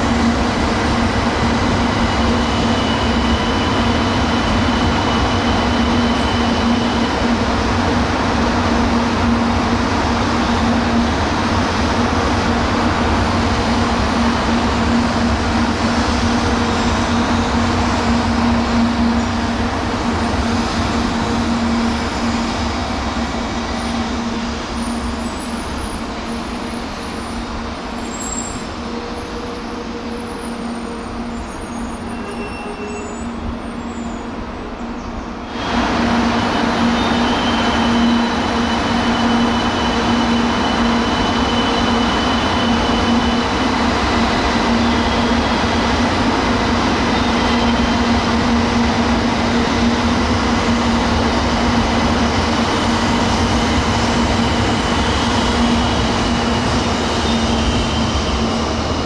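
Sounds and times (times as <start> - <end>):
train rushing noise: 0.0 - 59.0.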